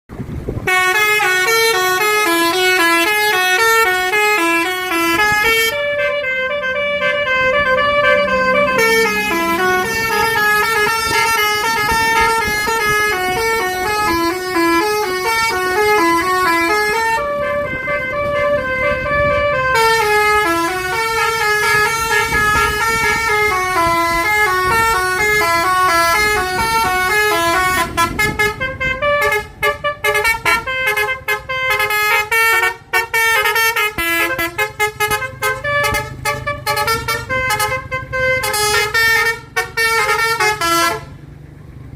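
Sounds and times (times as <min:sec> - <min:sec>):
bus musical horn tune: 0:00.5 - 0:41.2.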